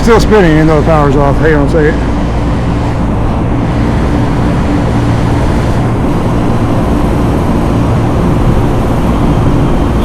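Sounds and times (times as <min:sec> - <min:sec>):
ventilation machinery droning: 0:00.0 - 0:10.0.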